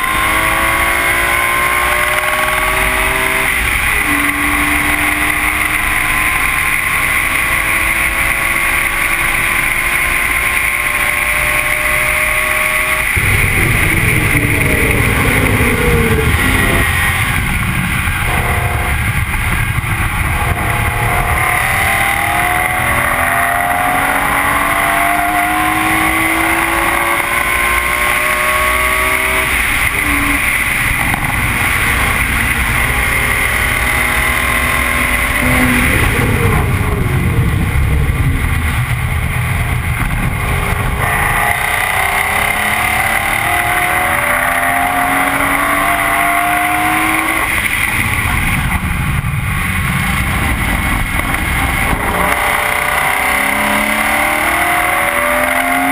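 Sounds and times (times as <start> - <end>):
car engine at full throttle: 0.0 - 55.9
road and wind rumble: 0.0 - 55.9.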